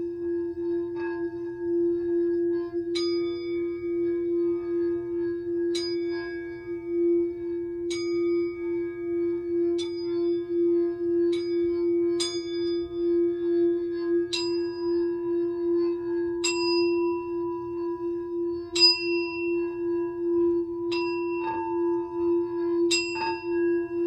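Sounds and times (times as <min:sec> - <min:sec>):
singing bowl humming and ringing: 0:00.0 - 0:24.0.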